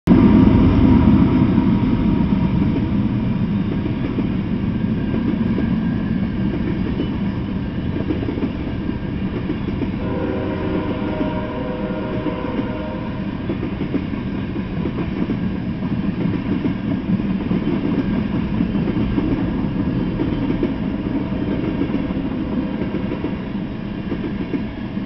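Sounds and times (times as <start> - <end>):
freight train wheels rumbling on rails: 0.1 - 25.0.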